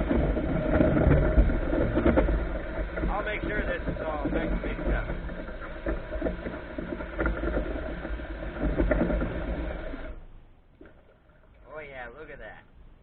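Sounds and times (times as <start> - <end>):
muddy water and gravel sloshing: 0.0 - 12.4.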